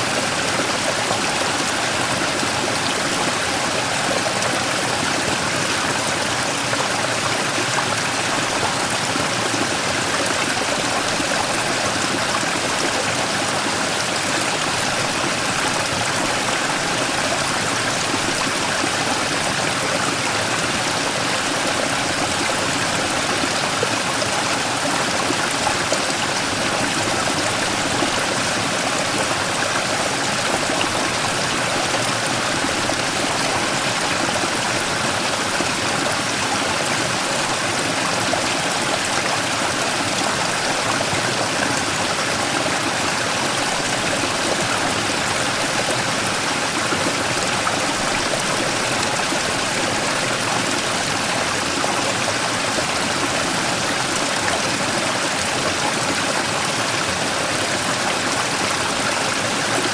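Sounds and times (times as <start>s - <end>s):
stream rushing over rock: 0.0s - 59.9s.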